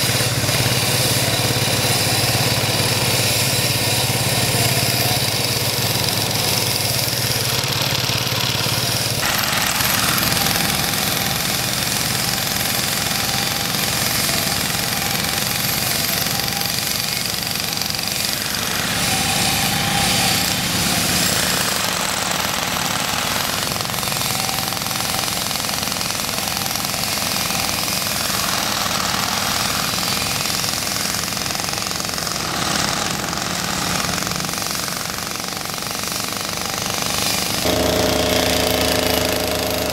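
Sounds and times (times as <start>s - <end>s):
concrete cutter sawing road: 0.0s - 39.9s
demolition breaker hammering asphalt: 0.0s - 39.9s.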